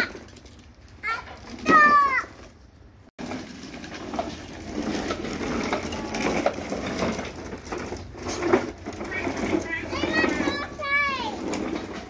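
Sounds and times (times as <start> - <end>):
plastic wheels rolling on concrete: 0.0 - 12.0.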